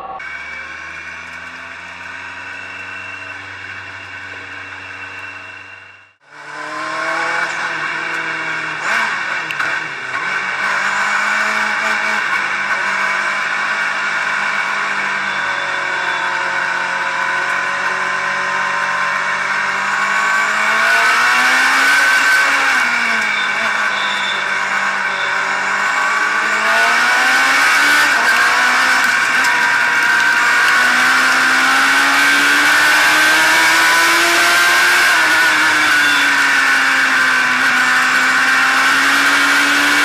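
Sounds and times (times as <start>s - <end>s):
race car engine: 0.0s - 40.0s.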